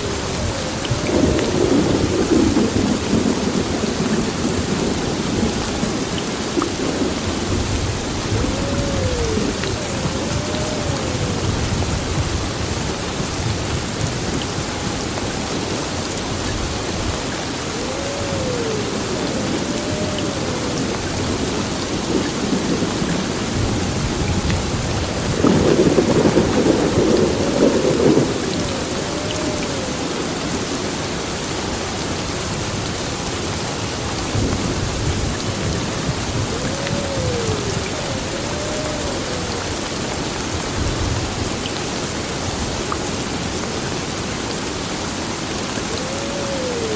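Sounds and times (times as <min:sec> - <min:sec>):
rumbling thunder: 0:00.0 - 0:31.8, 0:34.2 - 0:41.7
heavy rain pouring: 0:00.0 - 0:46.9.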